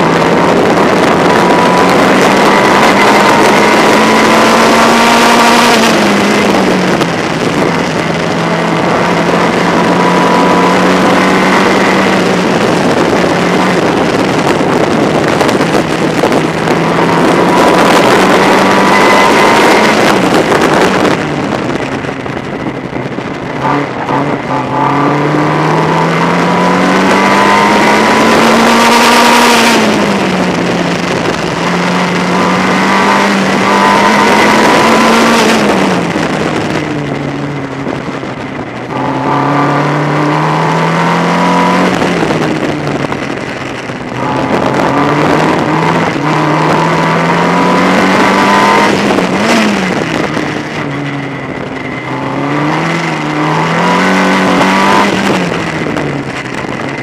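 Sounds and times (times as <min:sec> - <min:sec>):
race car engine: 0:00.0 - 0:57.0
wind and road noise: 0:00.0 - 0:57.0.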